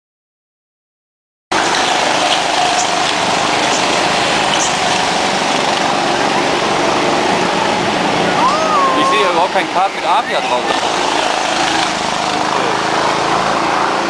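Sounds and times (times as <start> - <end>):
go-kart engines running: 1.5 - 14.0.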